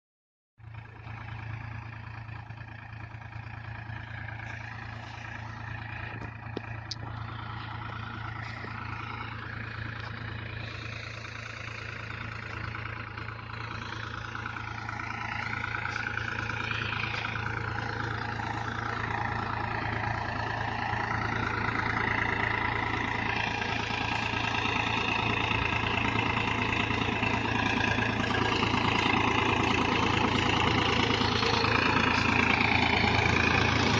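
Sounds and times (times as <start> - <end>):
farm machinery engine humming: 0.6 - 33.9.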